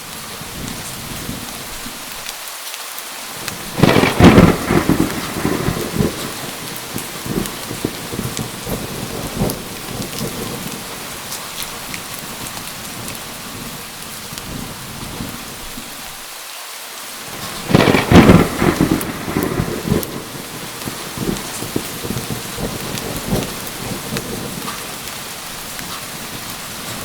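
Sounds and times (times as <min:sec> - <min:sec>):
loud crackling thunderclap: 0:00.0 - 0:02.2, 0:03.3 - 0:16.2, 0:17.3 - 0:27.0
steady rain: 0:00.0 - 0:27.0
low rolling thunder: 0:00.1 - 0:02.0, 0:03.4 - 0:16.1, 0:17.3 - 0:27.0.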